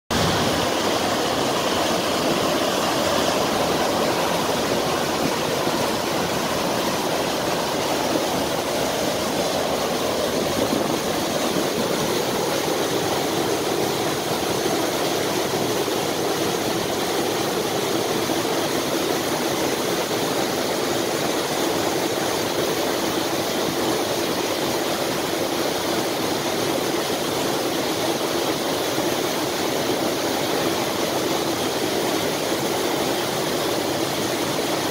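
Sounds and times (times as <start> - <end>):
water rushing over lock gates: 0.1 - 34.9.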